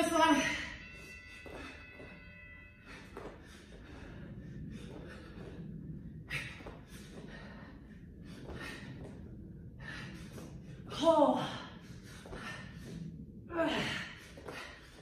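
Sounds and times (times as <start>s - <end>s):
woman breathing hard: 0.5s - 15.0s.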